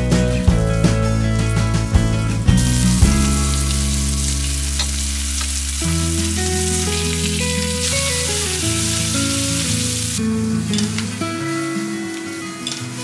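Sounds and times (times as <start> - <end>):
background music: 0.0 - 13.0
fish sizzling in hot oil: 2.4 - 13.0.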